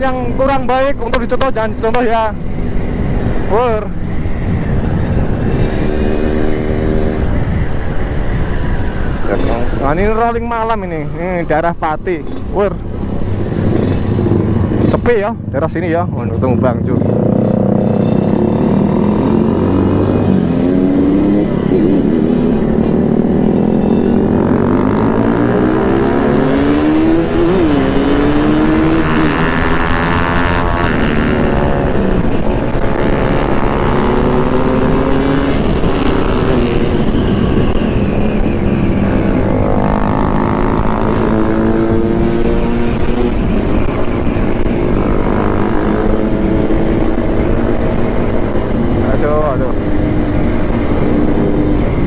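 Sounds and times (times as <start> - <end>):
motorcycle engine revving: 0.0 - 10.3, 12.1 - 52.0.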